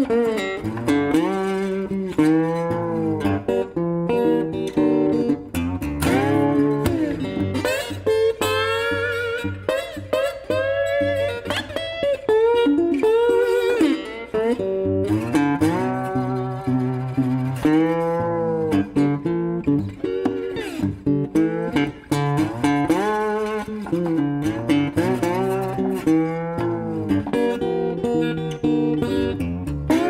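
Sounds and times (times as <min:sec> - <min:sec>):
blues slide guitar music: 0:00.0 - 0:30.0.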